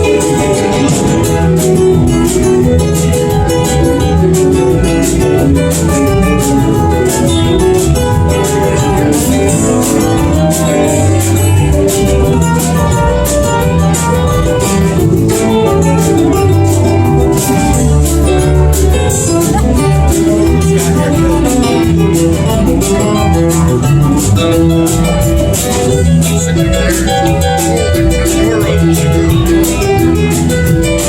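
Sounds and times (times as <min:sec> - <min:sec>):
bass and drums with steady beat: 0:00.0 - 0:31.0
electric guitar soloing: 0:00.0 - 0:31.0.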